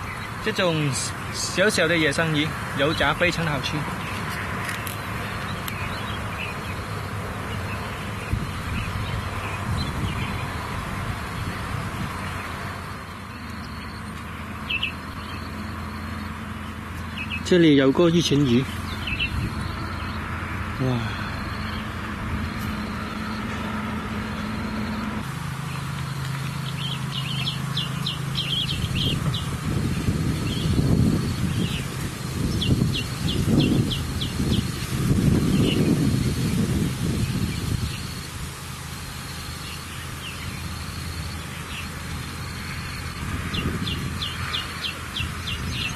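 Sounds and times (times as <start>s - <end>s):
bird chirping: 0.0s - 10.8s, 13.2s - 36.6s, 39.3s - 45.9s
outdoor background noise: 0.0s - 45.9s
low motor hum: 3.8s - 45.9s
low steady rumble: 5.0s - 45.9s.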